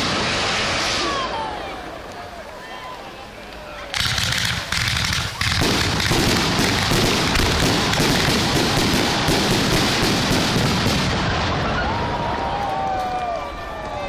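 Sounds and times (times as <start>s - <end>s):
fireworks bursts and crackles: 0.0s - 14.0s.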